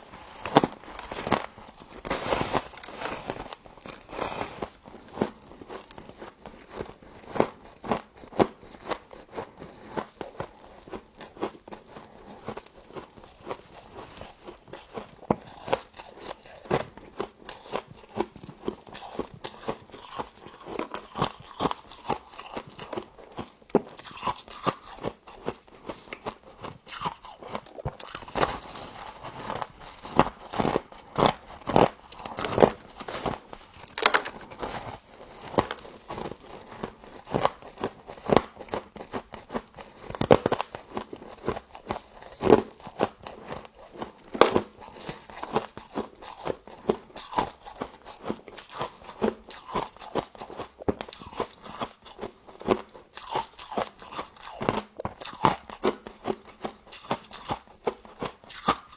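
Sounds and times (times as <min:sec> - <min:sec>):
frost being chewed crunching: 0:00.0 - 0:58.9.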